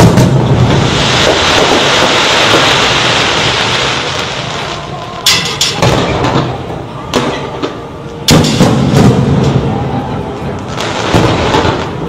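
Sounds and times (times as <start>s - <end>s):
fireworks crackling hiss: 0.0s - 9.8s, 10.6s - 12.0s
fireworks bangs: 0.0s - 12.0s.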